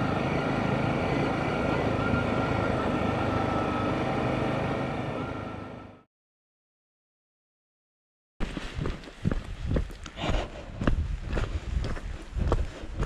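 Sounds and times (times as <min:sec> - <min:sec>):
road and wind noise: 0:00.0 - 0:06.0, 0:08.5 - 0:13.0.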